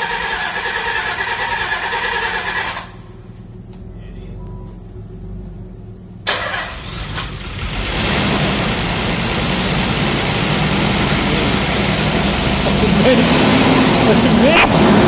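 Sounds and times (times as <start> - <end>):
car engine starting and running: 0.0 - 15.0.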